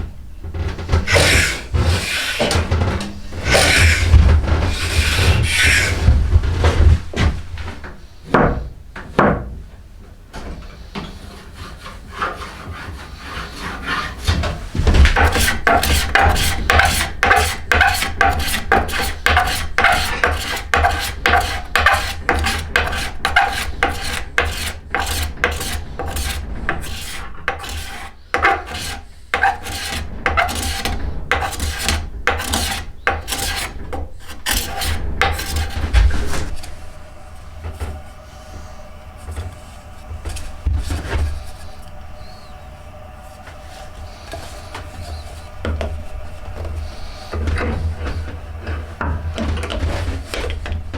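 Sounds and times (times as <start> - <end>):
hand tool rasping wood: 0.6 - 7.7, 10.9 - 50.9.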